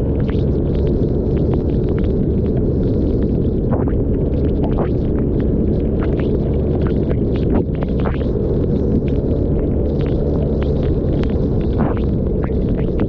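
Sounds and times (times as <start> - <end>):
raindrops ticking on camera: 0.0 - 13.0
wind rumble on microphone: 0.0 - 13.0.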